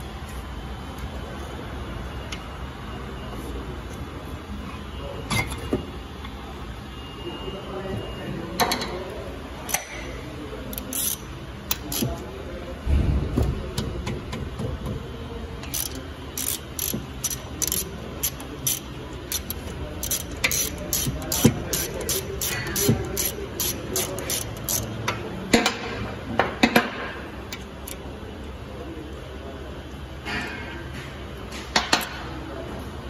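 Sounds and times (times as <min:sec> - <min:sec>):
low workshop hum: 0:00.0 - 0:33.0.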